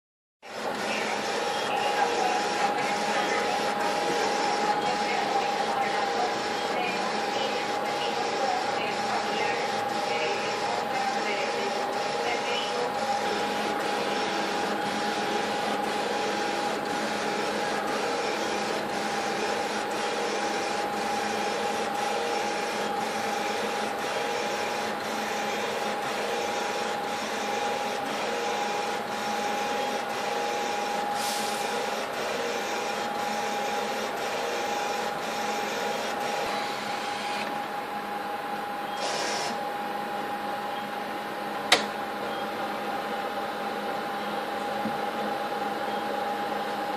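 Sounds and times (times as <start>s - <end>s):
inkjet printer printing: 0.5s - 38.2s, 38.8s - 39.9s.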